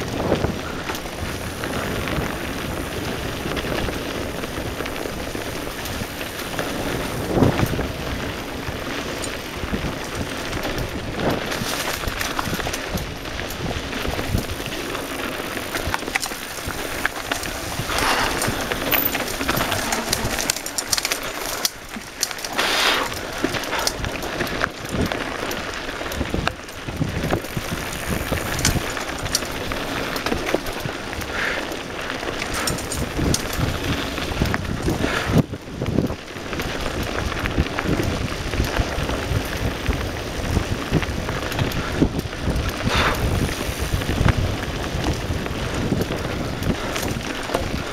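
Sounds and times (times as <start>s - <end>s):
bike clicks and rattles: 0.0s - 47.9s
bike tyres rolling on gravel: 0.0s - 47.9s.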